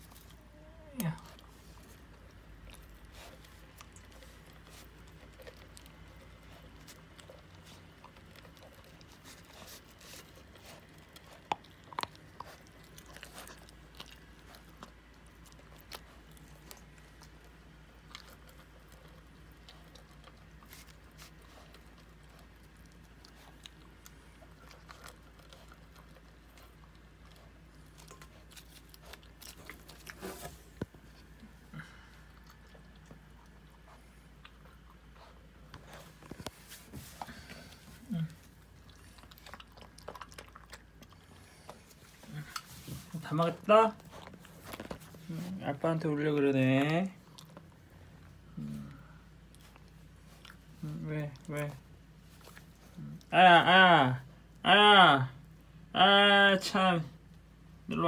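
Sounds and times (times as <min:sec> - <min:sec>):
dog crunching kibble: 0:00.0 - 0:47.9.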